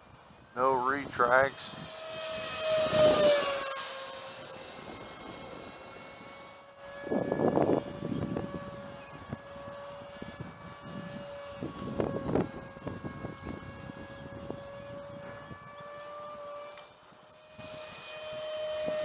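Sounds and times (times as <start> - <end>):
electric ducted fan whining: 0.0 - 19.0
wind buffeting microphone: 0.2 - 16.0.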